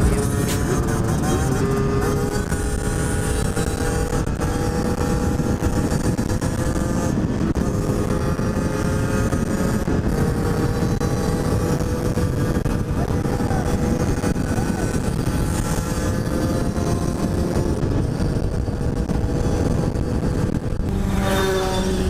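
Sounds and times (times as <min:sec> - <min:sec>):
two-stroke motorcycle engine: 0:00.0 - 0:22.0
wind rumble: 0:00.0 - 0:22.0.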